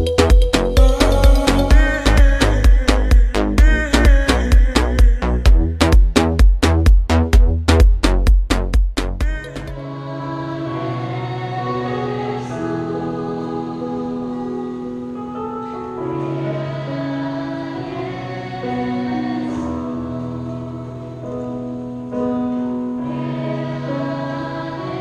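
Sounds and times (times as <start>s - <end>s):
slow held chords: 0.0s - 25.0s.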